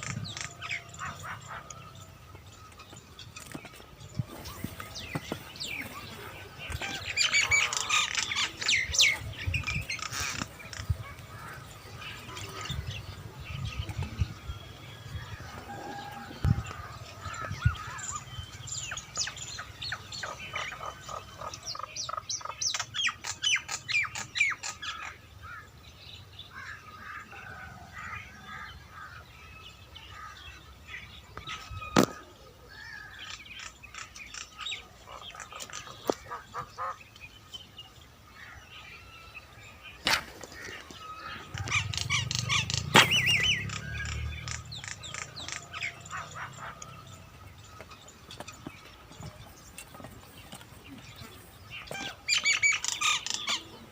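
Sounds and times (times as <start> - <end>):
birds chirping and calling: 0.0 - 53.9.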